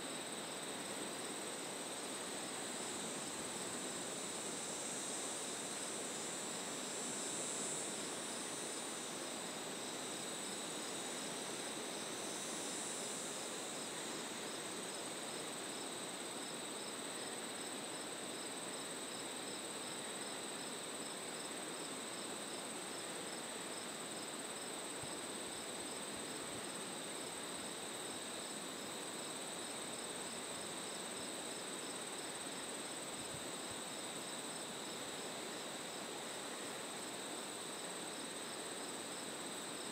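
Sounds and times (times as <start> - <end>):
crickets trilling: 0.0 - 39.9
insect chirping: 0.0 - 39.9.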